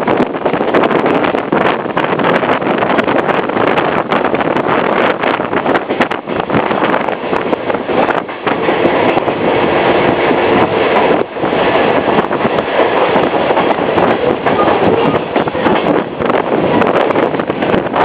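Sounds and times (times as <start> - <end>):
train wheel and rail noise: 0.0 - 18.0.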